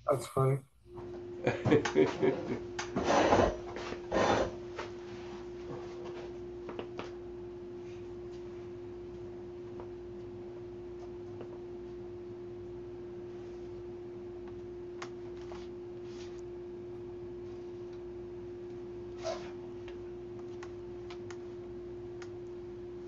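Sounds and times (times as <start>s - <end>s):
steady single-pitched hum: 0.0s - 23.0s.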